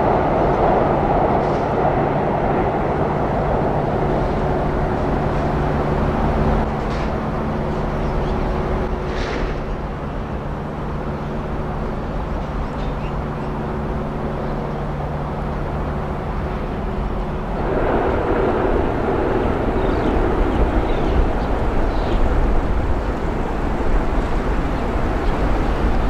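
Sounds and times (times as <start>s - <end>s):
distant train hum: 0.0s - 26.0s
train rumbling on bridge: 0.0s - 26.0s.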